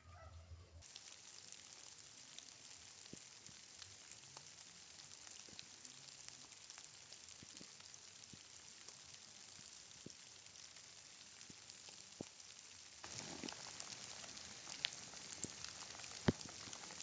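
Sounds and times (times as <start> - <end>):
faint rain pattering: 0.2 - 17.0
raindrop ticks: 0.8 - 17.0.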